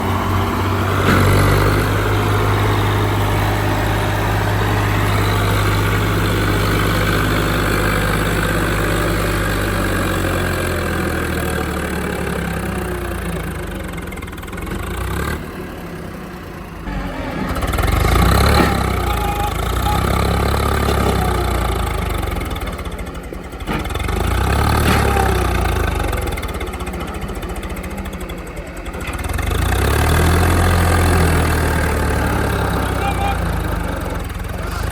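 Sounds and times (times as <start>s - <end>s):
diesel engine running and revving: 0.0s - 34.9s.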